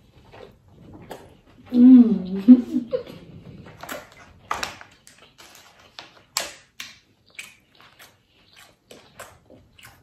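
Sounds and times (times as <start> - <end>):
wet chewing sounds: 0.0 - 10.0.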